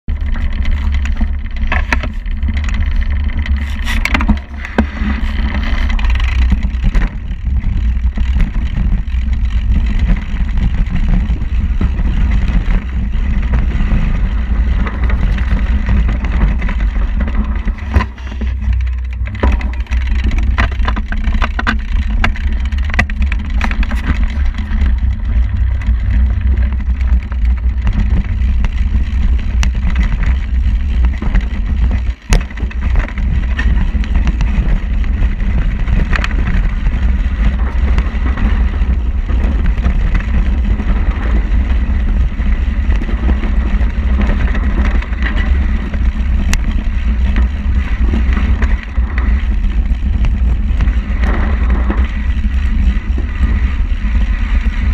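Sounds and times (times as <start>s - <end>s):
bike tyre noise on dirt: 0.0s - 54.9s
wind rumble on microphone: 0.0s - 54.9s
bike rattling knocks: 0.1s - 54.9s.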